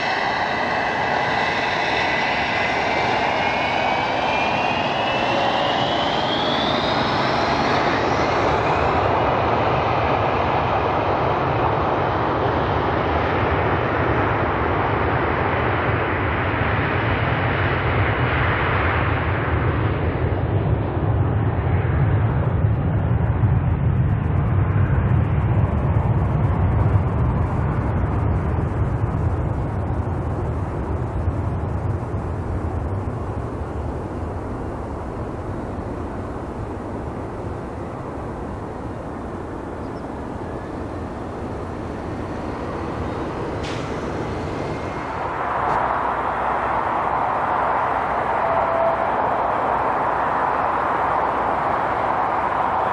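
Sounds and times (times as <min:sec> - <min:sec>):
jet engine rumble: 0:00.0 - 0:52.9.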